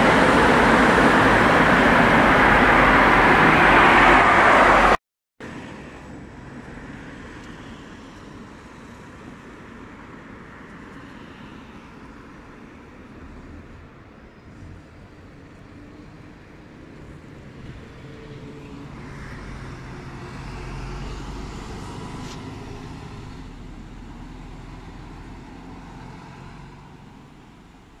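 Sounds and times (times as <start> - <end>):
bus driving past: 0.0 - 28.0.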